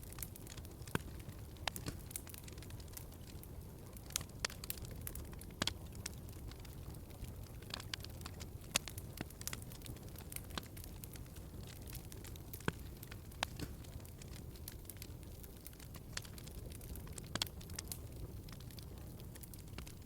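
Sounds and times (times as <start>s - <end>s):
fire popping and snapping: 0.0s - 20.0s
wood fire crackling: 0.0s - 20.0s.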